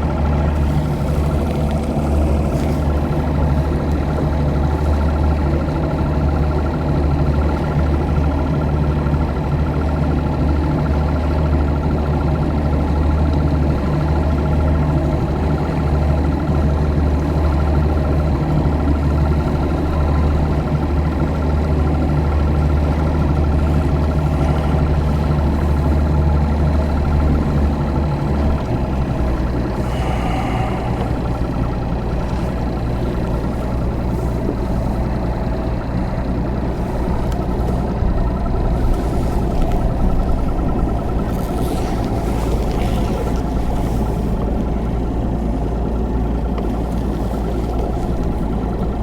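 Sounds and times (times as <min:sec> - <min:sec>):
motor engine drone: 0:00.0 - 0:49.0.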